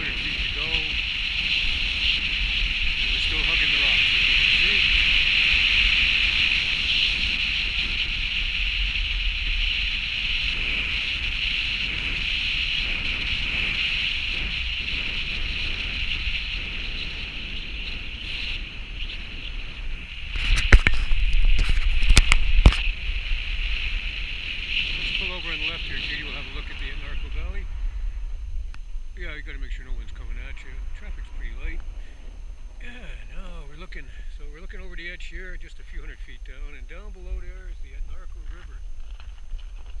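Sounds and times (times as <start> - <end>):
car road and wind noise: 0.0 - 32.8.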